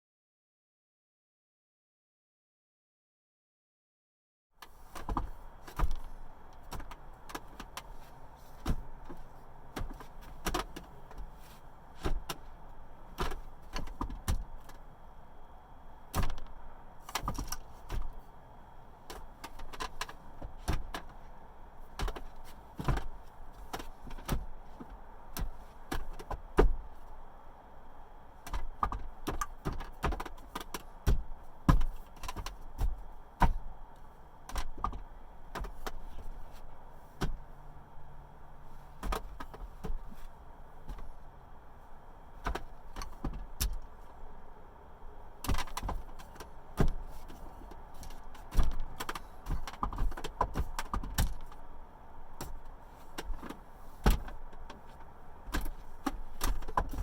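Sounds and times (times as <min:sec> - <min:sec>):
faint steady hum: 0:04.6 - 0:57.0.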